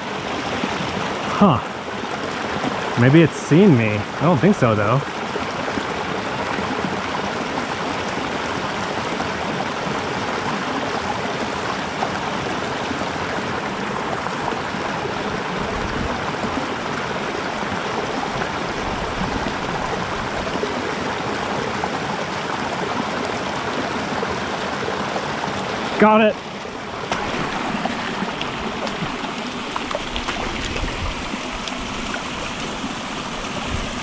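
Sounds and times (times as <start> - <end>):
creek running over rocks: 0.0 - 34.0.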